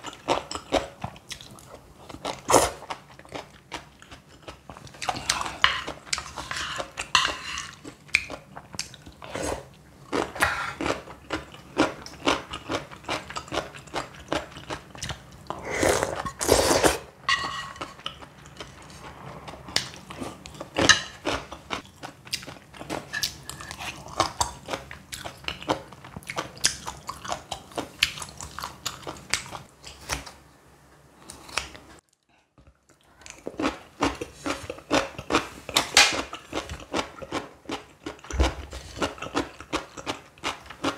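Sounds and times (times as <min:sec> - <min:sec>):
chewing crisp food: 0:00.0 - 0:07.1, 0:07.7 - 0:16.4, 0:17.8 - 0:30.4, 0:31.3 - 0:40.9.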